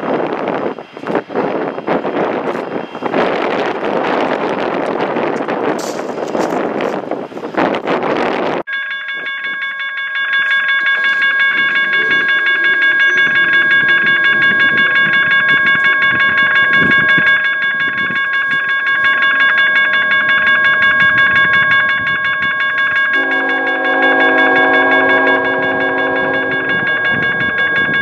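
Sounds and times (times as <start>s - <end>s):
low rumble of train: 0.0s - 28.0s
railroad crossing bell ringing: 0.0s - 28.0s.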